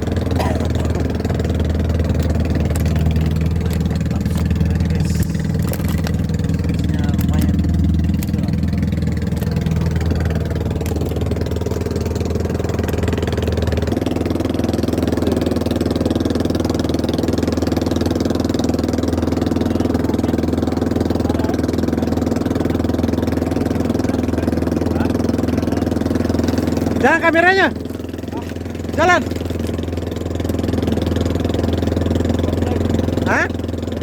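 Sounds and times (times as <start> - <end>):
boat motor running: 0.0 - 34.0.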